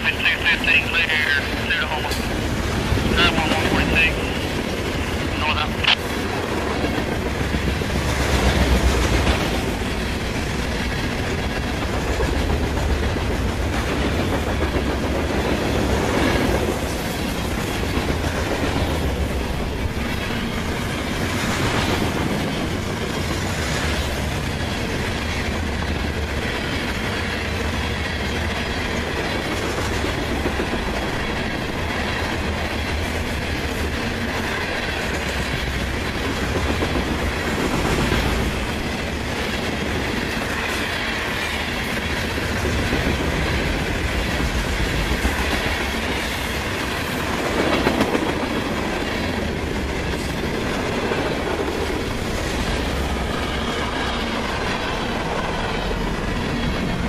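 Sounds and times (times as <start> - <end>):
freight train wheels rolling past: 0.0 - 5.4, 6.0 - 57.0.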